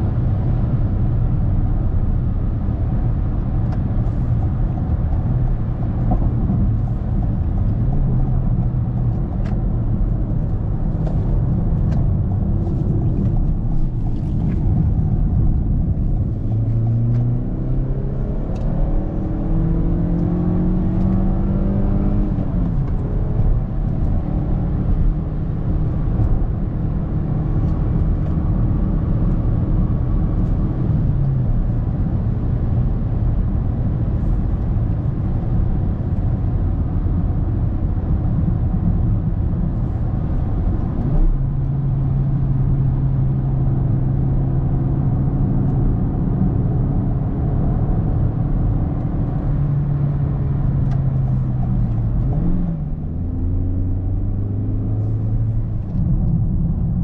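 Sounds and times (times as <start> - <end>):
car engine while driving: 0.0 - 57.0.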